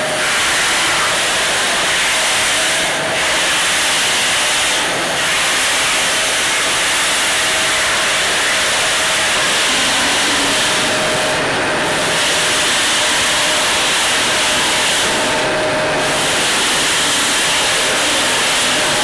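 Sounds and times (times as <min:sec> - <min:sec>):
sanding machine grinding steel: 0:03.4 - 0:19.0.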